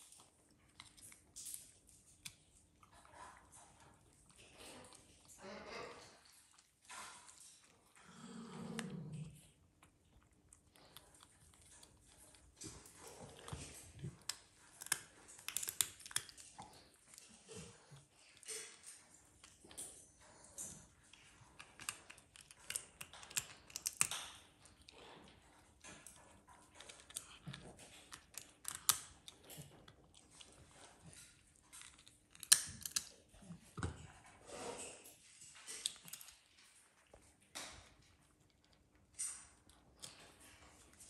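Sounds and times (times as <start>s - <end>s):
raccoon crunching a nut: 0.0s - 41.0s.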